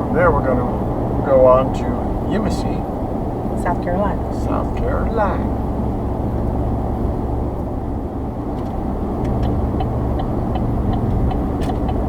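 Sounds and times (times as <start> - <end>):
truck engine and road rumble: 0.0 - 12.0
turn signal ticking: 0.0 - 12.0.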